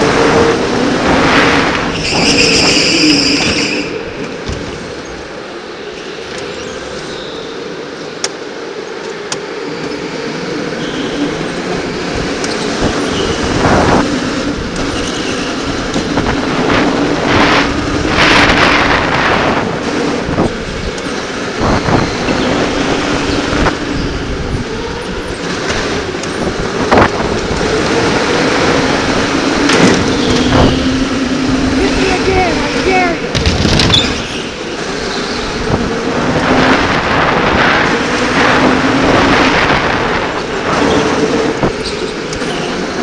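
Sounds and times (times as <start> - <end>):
tyre and wind noise: 0.0 - 43.0.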